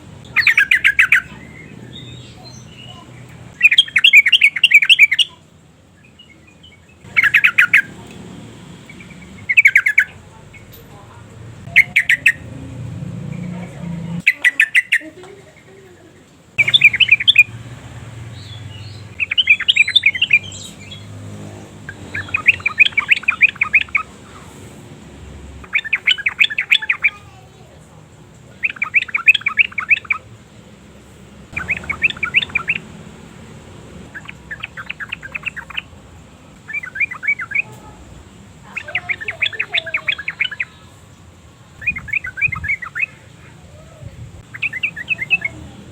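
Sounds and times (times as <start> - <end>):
bird chattering song: 0.2 - 5.4, 6.0 - 15.9, 16.6 - 24.6, 25.6 - 27.7, 28.5 - 30.4, 31.5 - 36.0, 36.6 - 40.9, 41.7 - 45.9.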